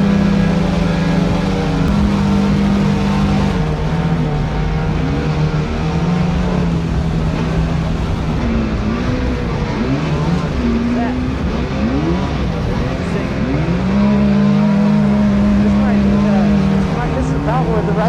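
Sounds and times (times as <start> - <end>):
boat motor running: 0.0 - 18.0
steady rush of noise: 0.0 - 18.0.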